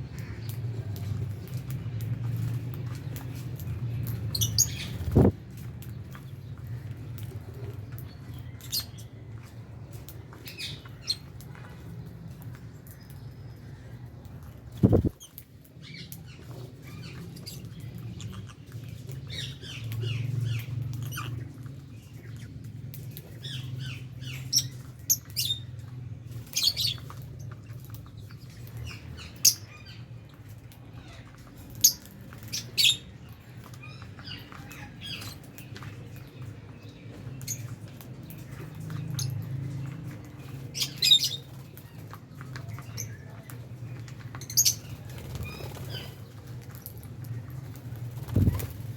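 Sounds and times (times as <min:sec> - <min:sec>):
lovebirds chirping and squawking: 0:00.0 - 0:48.9.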